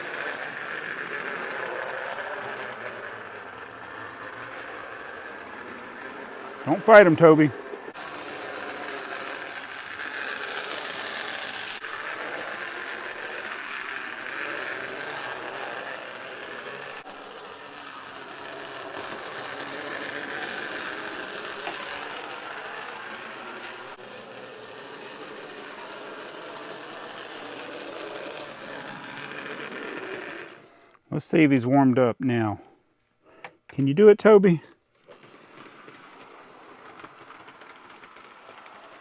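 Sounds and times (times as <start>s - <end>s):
small electric motors whirring: 0.0s - 31.0s, 34.9s - 39.0s
wheels rolling on rails: 0.0s - 31.0s, 33.3s - 39.0s.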